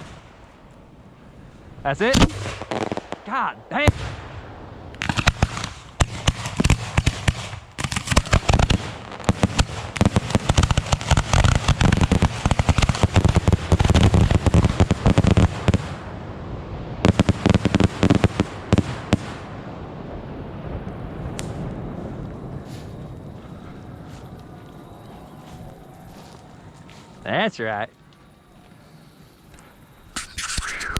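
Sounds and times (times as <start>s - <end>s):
fireworks cracks and bangs: 0.0s - 0.7s, 2.0s - 27.2s.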